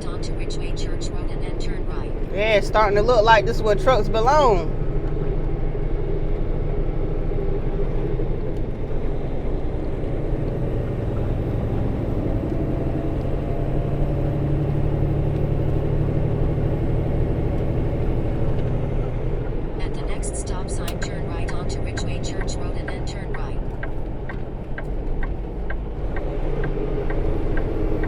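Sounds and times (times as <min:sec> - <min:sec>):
truck diesel engine rumbling: 0:00.0 - 0:28.0.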